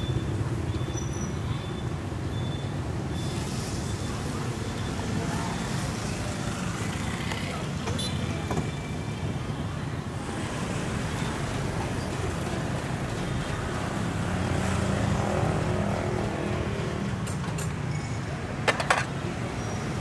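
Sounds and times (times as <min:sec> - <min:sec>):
traffic engines humming: 0:00.0 - 0:20.0.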